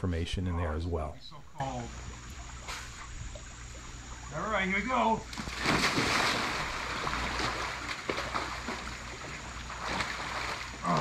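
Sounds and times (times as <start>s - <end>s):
water splashing and sloshing: 1.6s - 11.0s.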